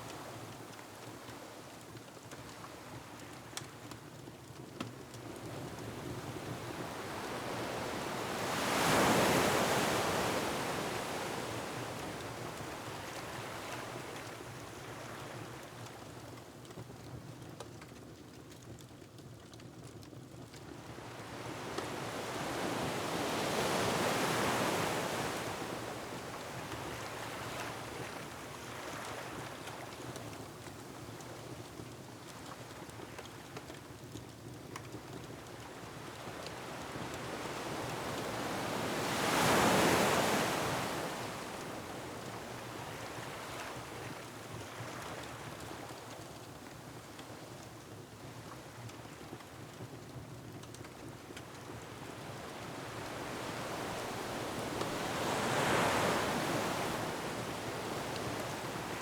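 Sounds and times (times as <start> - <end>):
wind: 0.0 - 59.0.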